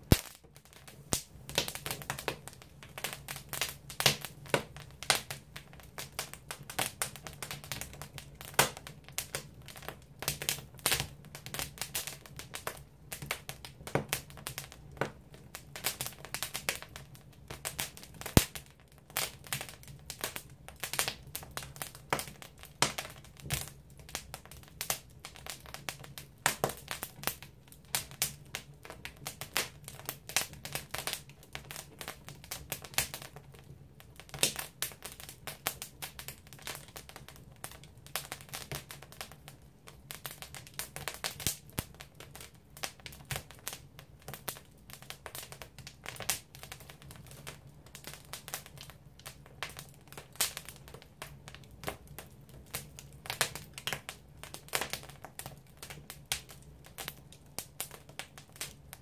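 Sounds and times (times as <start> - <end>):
firewood crackling and popping: 0.0 - 59.0.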